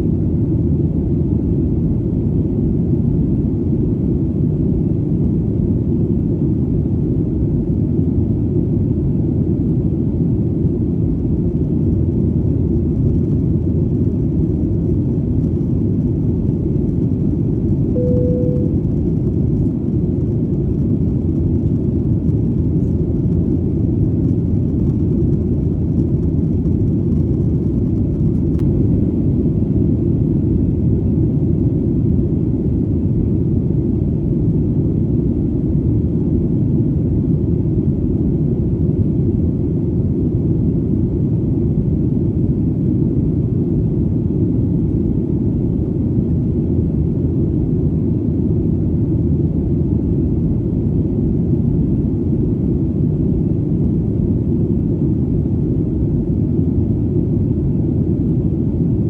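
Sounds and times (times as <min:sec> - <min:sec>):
airplane drone in flight: 0:00.0 - 0:59.0.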